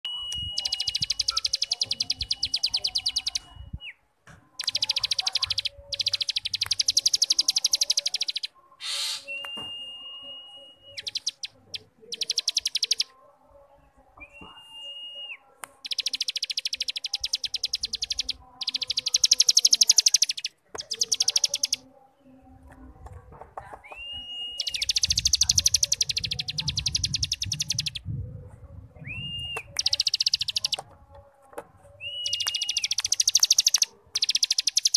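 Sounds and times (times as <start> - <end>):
high bird whistles: 0.0 - 4.0, 4.6 - 13.1, 14.2 - 21.8, 23.9 - 28.0, 29.0 - 30.8, 32.0 - 34.9.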